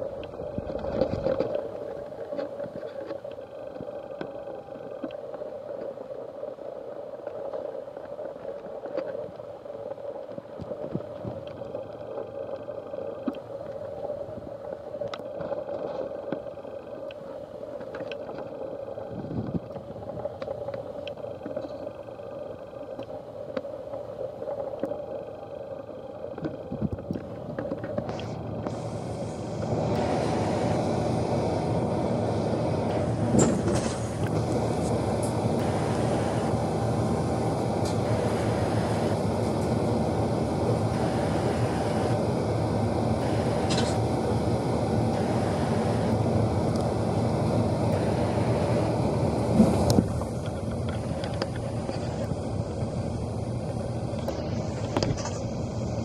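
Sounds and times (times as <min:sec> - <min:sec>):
bus engine and road drone: 0:00.0 - 0:56.0.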